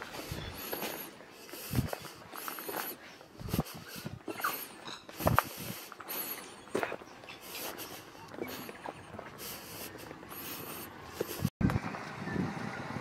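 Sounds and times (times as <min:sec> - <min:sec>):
snuffly breathing through nose: 0:00.0 - 0:11.5.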